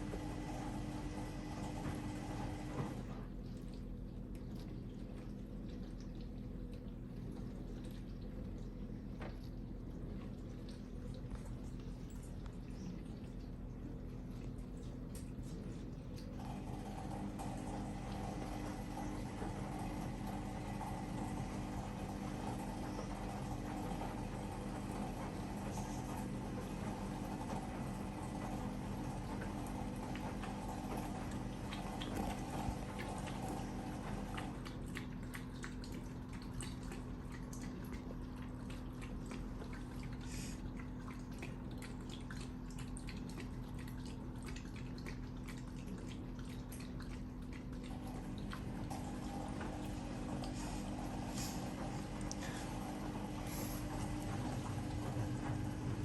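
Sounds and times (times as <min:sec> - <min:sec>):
dishwasher pump humming: 0:00.0 - 0:56.0
water swishing and dripping: 0:00.0 - 0:56.0.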